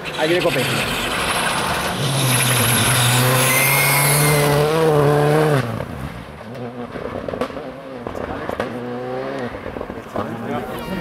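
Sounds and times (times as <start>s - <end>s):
rally car engine passing: 0.0s - 11.0s
tyre and road noise: 0.0s - 11.0s.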